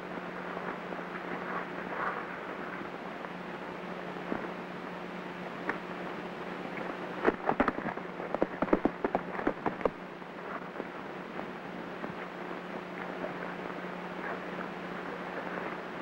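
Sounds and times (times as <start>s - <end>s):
film soundtrack hiss and hum: 0.0s - 16.0s.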